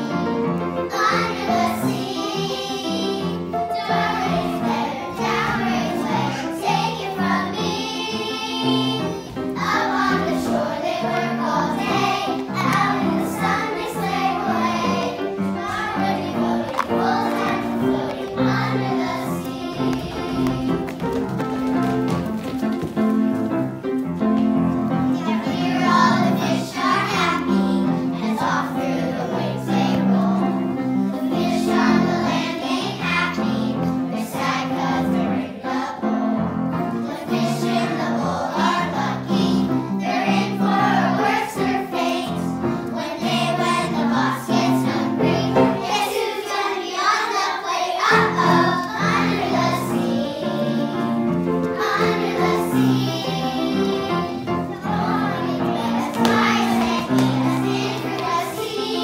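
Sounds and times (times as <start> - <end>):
accompaniment music: 0.0 - 59.0
children's choir singing: 0.0 - 59.0.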